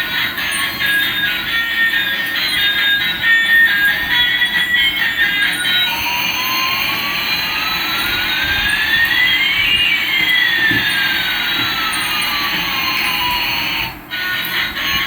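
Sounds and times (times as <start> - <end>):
toy jet engine sound: 0.0 - 15.0.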